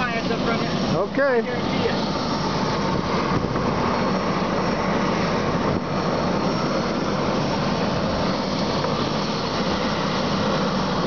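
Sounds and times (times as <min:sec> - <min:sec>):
machine engine droning: 0:00.0 - 0:11.0.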